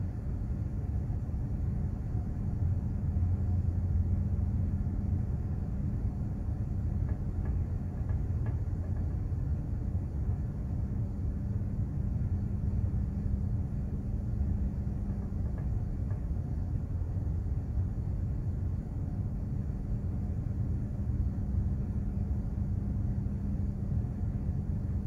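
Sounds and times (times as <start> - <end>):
ship low rumble and hum: 0.0 - 25.0.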